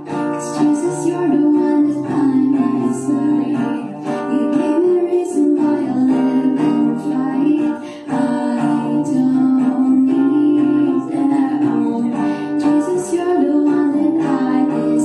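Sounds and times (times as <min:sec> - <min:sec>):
acoustic guitar chords: 0:00.0 - 0:15.0
person singing: 0:00.0 - 0:15.0.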